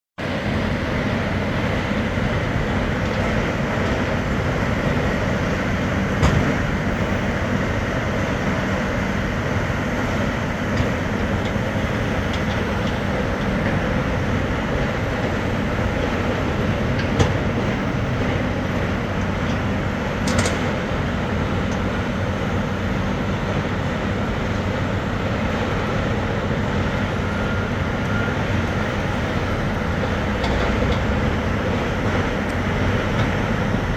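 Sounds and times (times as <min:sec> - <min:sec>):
diesel engine running under load: 0:00.2 - 0:33.9.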